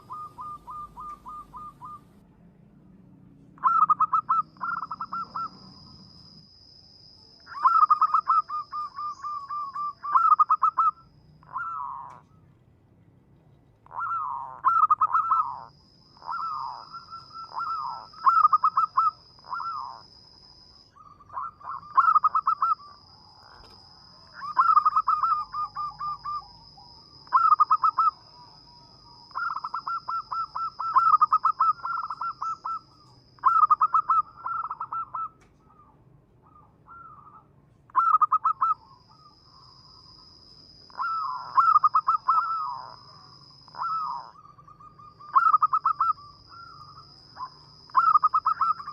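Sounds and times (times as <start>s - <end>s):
dove cooing: 0.0s - 2.2s, 3.6s - 6.3s, 7.5s - 12.5s, 13.8s - 20.1s, 21.0s - 39.4s, 40.9s - 48.9s.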